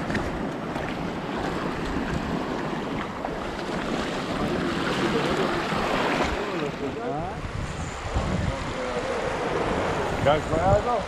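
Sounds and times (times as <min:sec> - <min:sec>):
waves washing on shore: 0:00.0 - 0:11.0
wind buffeting microphone: 0:00.0 - 0:11.0.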